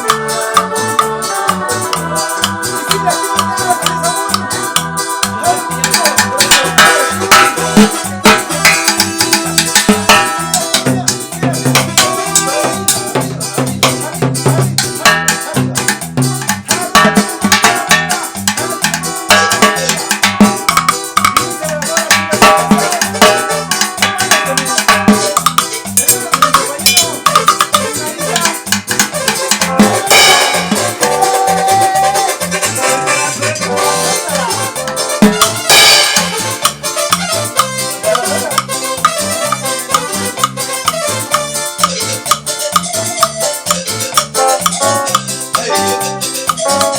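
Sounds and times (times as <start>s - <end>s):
cumbia music: 0.0s - 46.9s
drums and percussion beat: 0.0s - 46.9s.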